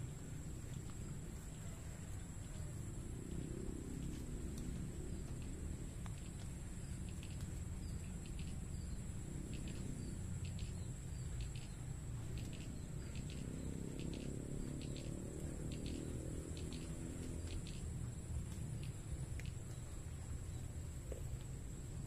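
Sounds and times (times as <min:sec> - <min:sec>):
insects chirping in pairs: 0:00.0 - 0:22.0.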